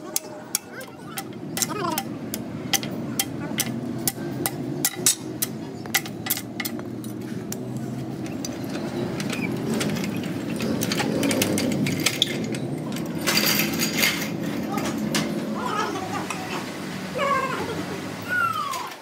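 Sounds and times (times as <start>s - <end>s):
sharp clicks and knocks: 0.1s - 15.4s.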